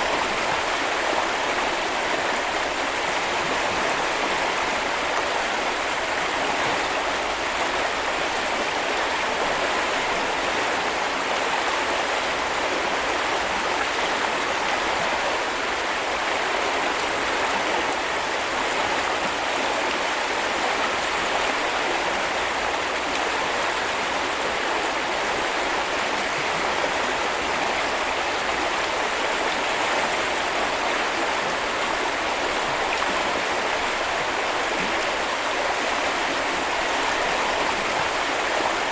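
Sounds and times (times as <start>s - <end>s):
brook flowing over stones: 0.0s - 38.9s.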